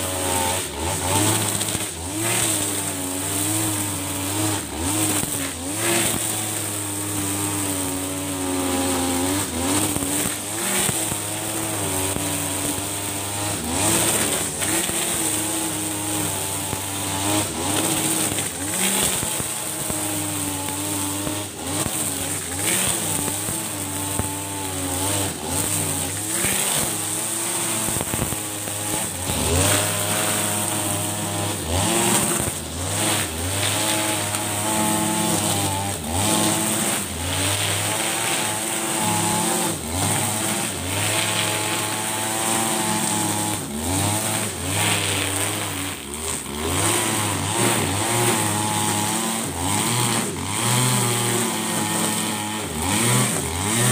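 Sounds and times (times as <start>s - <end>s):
brush cutter engine cutting grass: 0.0s - 53.9s
trimmer line swishing through grass: 0.0s - 53.9s.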